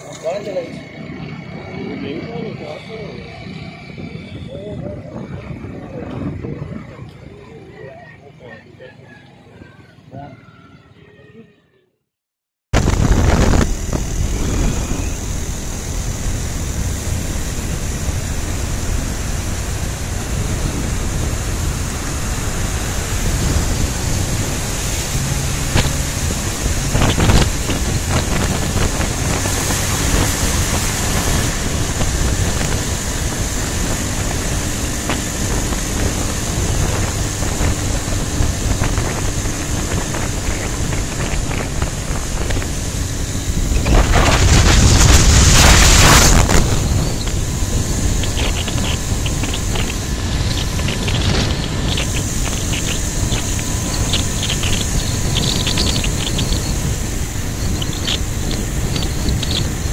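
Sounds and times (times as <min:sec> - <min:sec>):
wind buffeting microphone: 0:00.0 - 0:08.7, 0:12.8 - 0:59.9
tyre rumble of moving vehicle: 0:00.0 - 0:12.0, 0:12.8 - 0:59.9.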